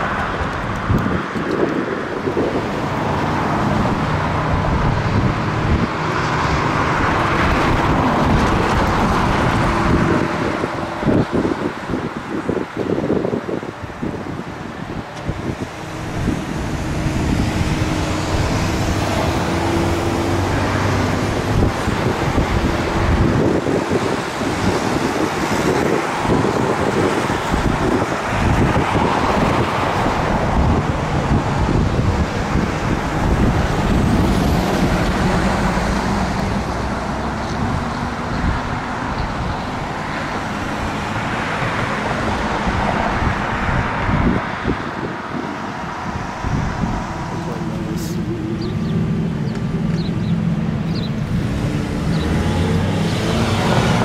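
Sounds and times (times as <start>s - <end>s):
heavy vehicle engine hum: 0.0s - 54.0s
passing road traffic: 0.0s - 54.0s.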